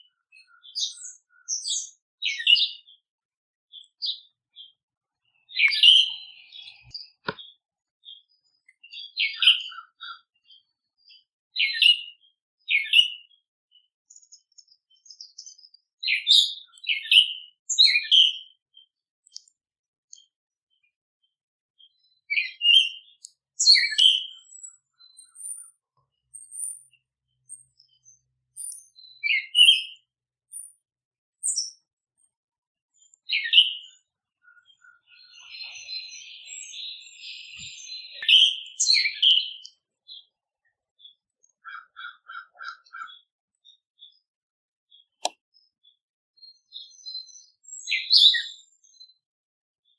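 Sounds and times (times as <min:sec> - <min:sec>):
songbirds chirping: 0:00.0 - 0:44.3, 0:44.9 - 0:49.2.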